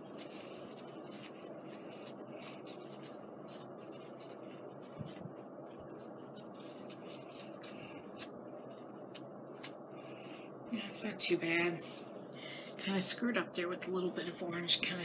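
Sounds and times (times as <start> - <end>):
tissue rubbing on paper: 0.0 - 12.2.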